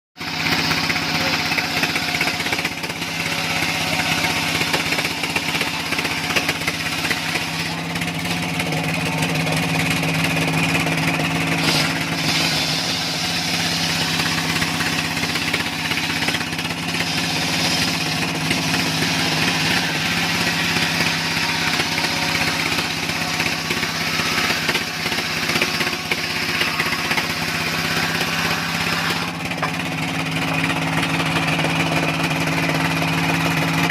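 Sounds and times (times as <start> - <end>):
engine running with high hiss: 0.2 - 33.9.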